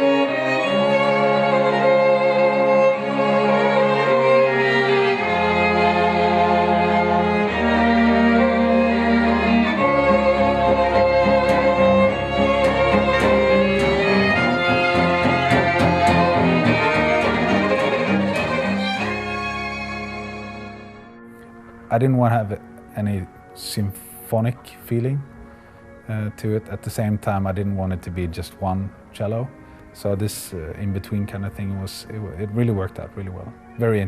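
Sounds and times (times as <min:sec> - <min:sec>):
cellos playing held chords: 0:00.0 - 0:34.0.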